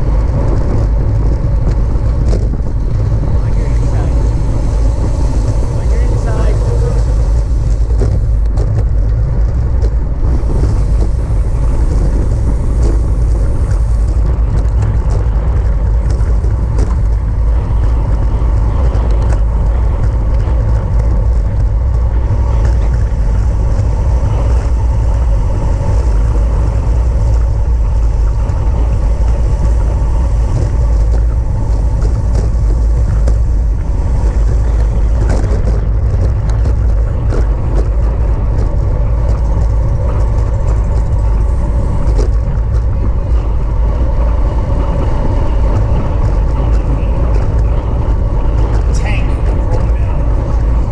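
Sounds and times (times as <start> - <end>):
rushing noise: 0.0 - 50.9
wind rumble on microphone: 0.0 - 50.9.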